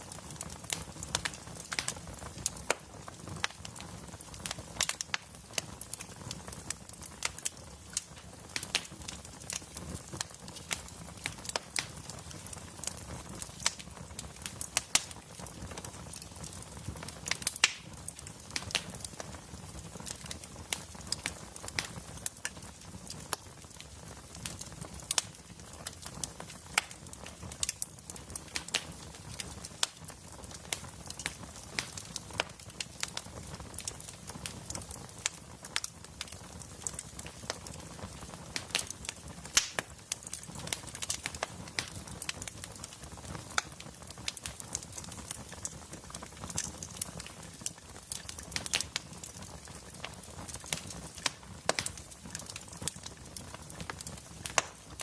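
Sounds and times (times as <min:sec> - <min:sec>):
low rumble of burning logs: 0:00.0 - 0:55.0
wood fire crackling: 0:00.0 - 0:55.0.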